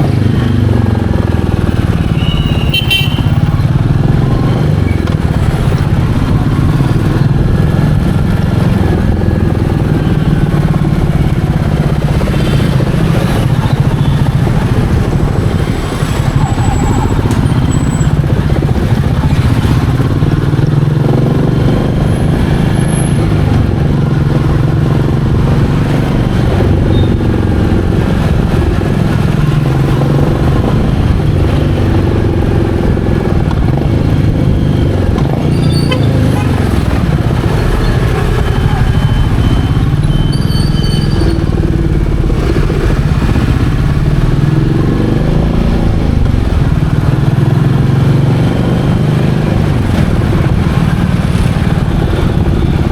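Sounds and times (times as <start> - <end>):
motorcycle engine running: 0.0 - 52.9
road noise: 0.0 - 52.9.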